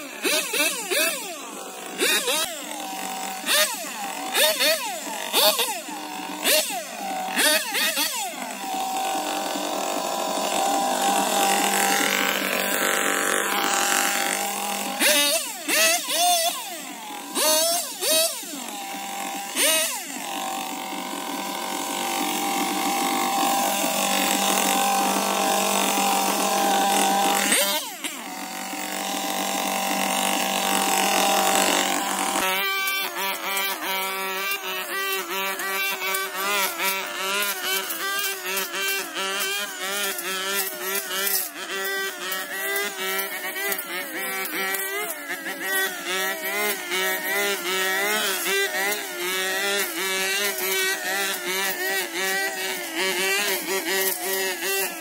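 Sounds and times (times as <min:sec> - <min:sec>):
leaf blower revving: 0:00.0 - 0:55.0.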